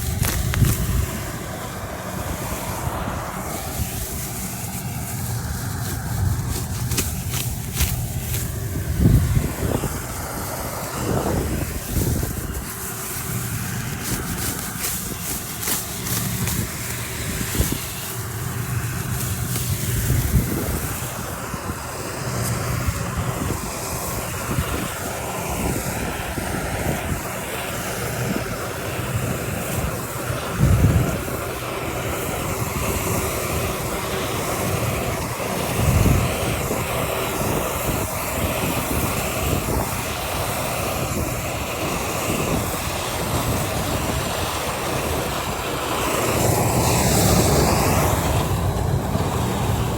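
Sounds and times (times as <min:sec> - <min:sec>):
harvesting machine engine running: 0:00.0 - 0:49.9
rushing noise: 0:00.0 - 0:49.9.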